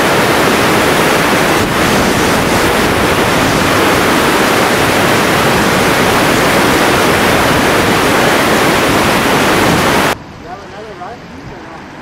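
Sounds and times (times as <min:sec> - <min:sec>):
flood water rushing with debris: 0:00.0 - 0:12.0.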